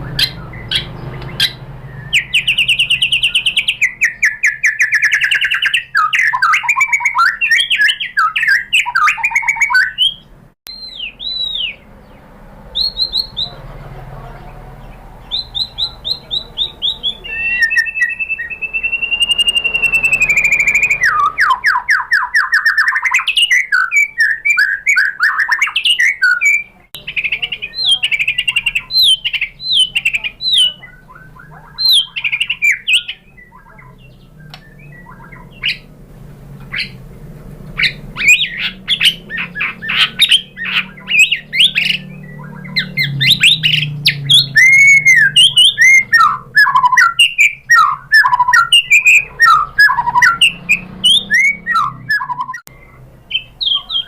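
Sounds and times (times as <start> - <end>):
bird singing whistles and trills: 0.0 - 13.6, 14.8 - 36.0, 36.7 - 37.0, 37.7 - 54.0.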